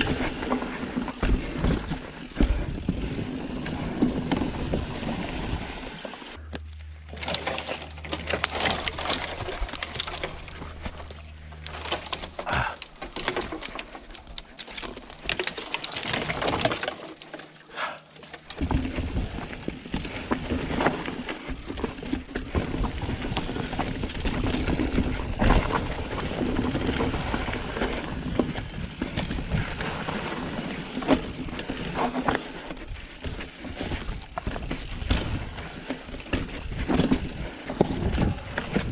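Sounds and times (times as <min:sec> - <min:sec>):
bike chain and frame clattering: 0:00.0 - 0:38.9
bike tyres on dirt and rock: 0:00.0 - 0:38.9.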